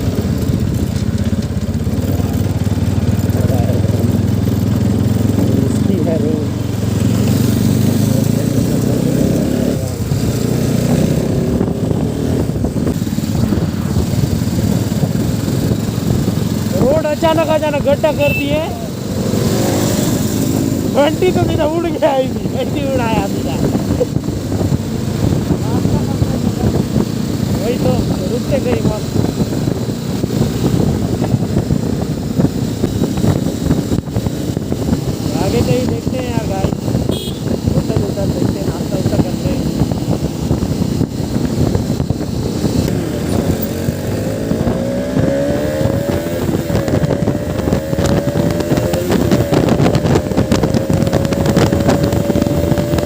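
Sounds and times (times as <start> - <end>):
motorcycle engine running: 0.0 - 53.0
road noise: 0.0 - 53.0
wind buffeting microphone: 0.0 - 53.0.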